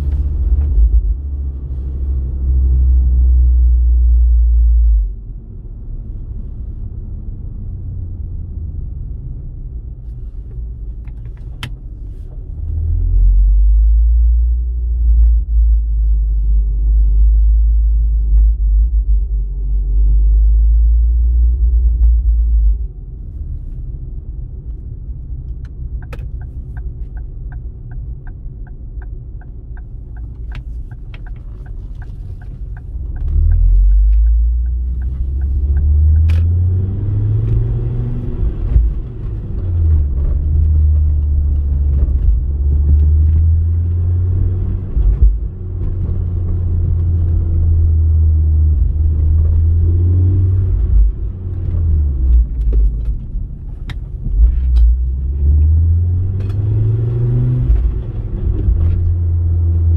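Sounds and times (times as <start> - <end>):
car engine rumbling and revving: 0.0 - 59.9
road noise: 0.0 - 59.9.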